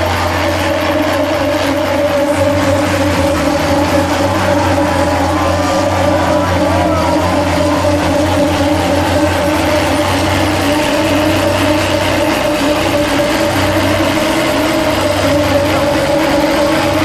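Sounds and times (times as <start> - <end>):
truck engines running hard: 0.0 - 17.0.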